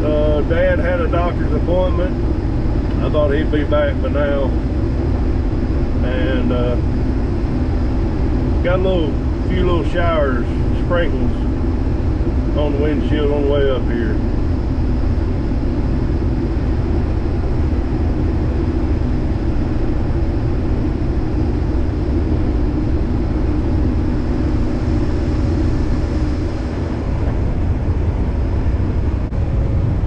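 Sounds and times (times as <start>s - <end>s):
combine harvester droning: 0.0s - 30.0s.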